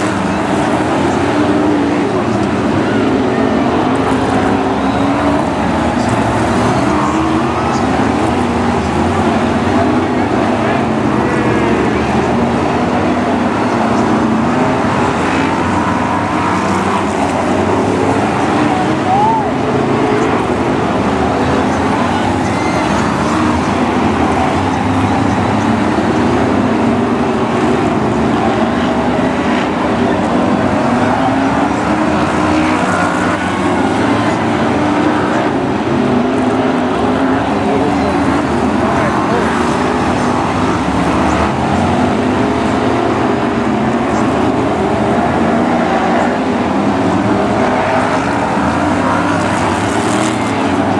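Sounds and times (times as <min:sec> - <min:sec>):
stock car engines racing: 0:00.0 - 0:50.9.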